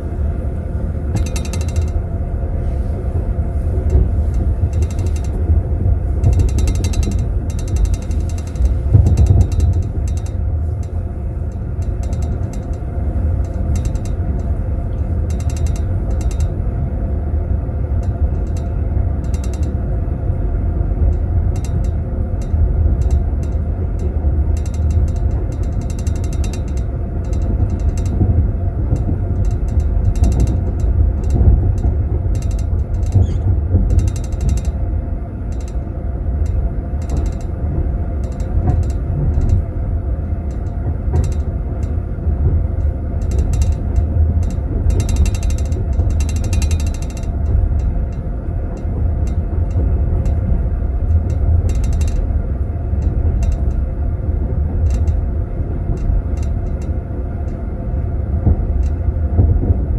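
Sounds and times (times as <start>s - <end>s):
train compartment rumble: 0.0s - 59.9s.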